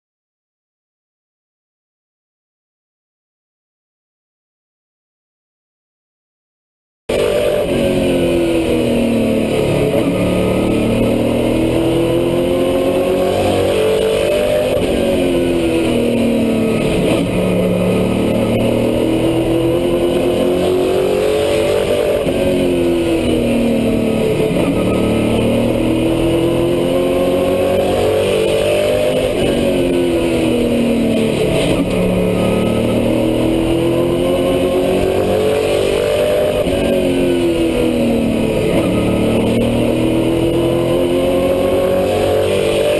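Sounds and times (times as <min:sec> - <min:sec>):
race engine revving: 0:07.1 - 0:42.9.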